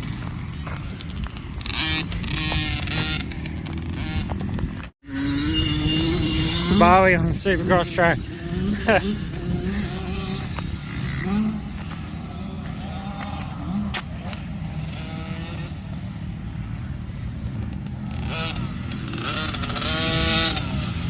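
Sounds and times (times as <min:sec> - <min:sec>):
two-stroke minibike engine revving: 0:00.0 - 0:21.0.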